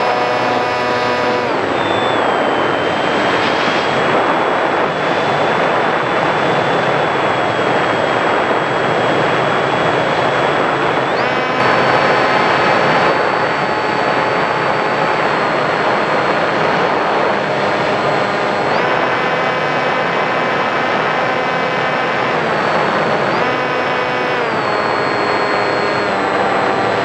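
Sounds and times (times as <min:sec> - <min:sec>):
electric motor whine: 0:00.0 - 0:27.0
wind and propeller rush: 0:00.0 - 0:27.0.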